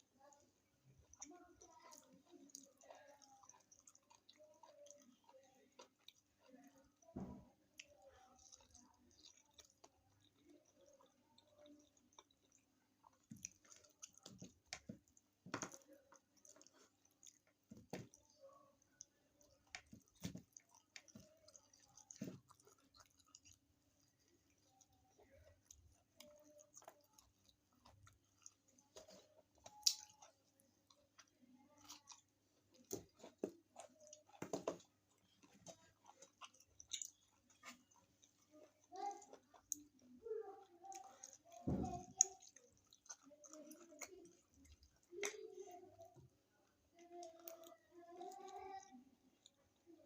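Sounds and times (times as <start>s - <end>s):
person chewing: 0.0s - 50.0s.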